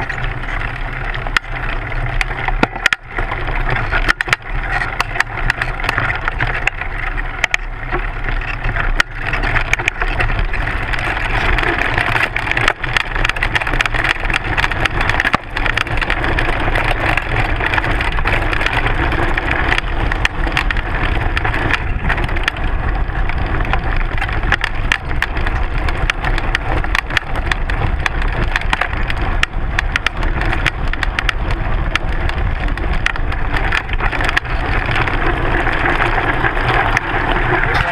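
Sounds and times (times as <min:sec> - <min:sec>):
bike rattling over rough trail: 0:00.0 - 0:37.9.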